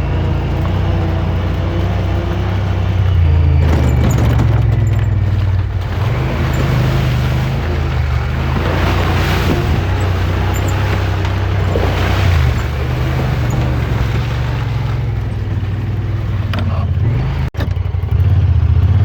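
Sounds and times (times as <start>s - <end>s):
wind noise: 0.0s - 17.2s
road noise: 0.0s - 19.0s
vehicle engine running: 0.0s - 19.0s.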